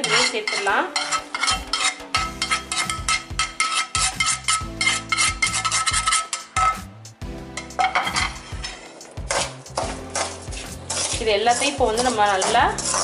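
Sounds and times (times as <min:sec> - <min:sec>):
metal spoon scraping metal pan: 0:00.0 - 0:13.0.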